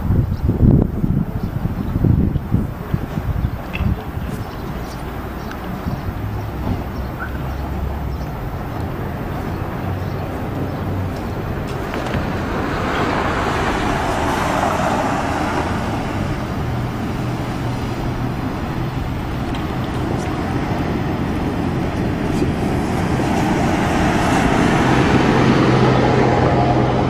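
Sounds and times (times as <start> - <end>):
low engine hum: 0.0 - 27.0
traffic tyre noise rushing: 0.0 - 27.0.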